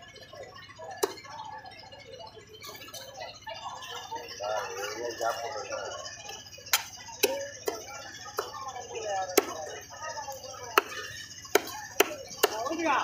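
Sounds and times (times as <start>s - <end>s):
voices talking: 0.0s - 13.0s.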